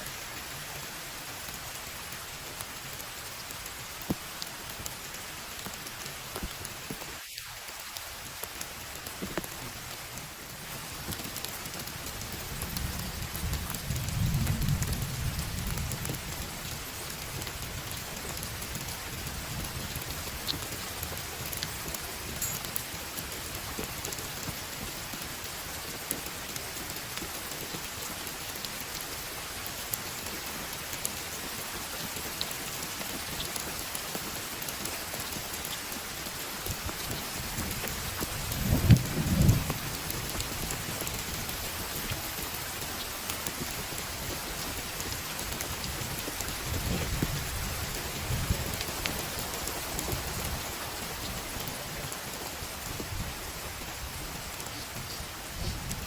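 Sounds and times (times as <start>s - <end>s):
heavy rain falling: 0.0s - 56.0s
raindrop ticks: 1.4s - 56.0s.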